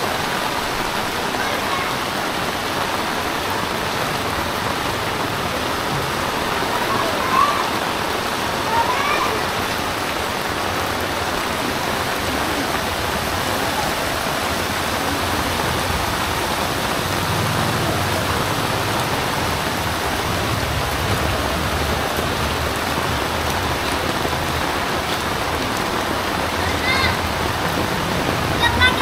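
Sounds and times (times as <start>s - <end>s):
heavy rain pouring on a street: 0.0s - 29.0s.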